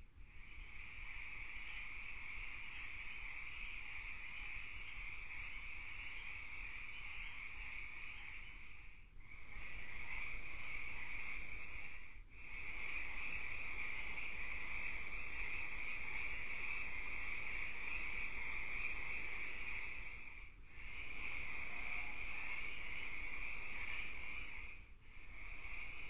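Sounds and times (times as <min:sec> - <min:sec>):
chorus of night-calling animals: 0:00.0 - 0:26.0.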